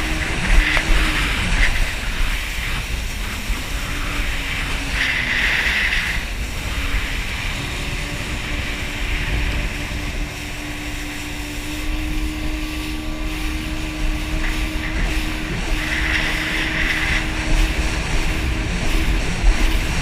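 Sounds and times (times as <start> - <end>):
jet ski engine droning: 0.0 - 20.0
wind and spray hiss: 0.0 - 20.0.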